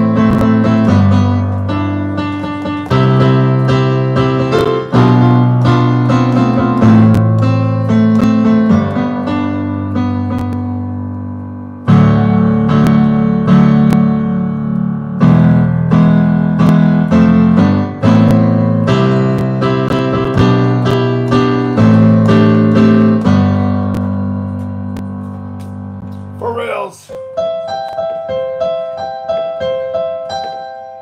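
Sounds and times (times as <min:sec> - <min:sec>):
digital piano chords: 0:00.0 - 0:31.0.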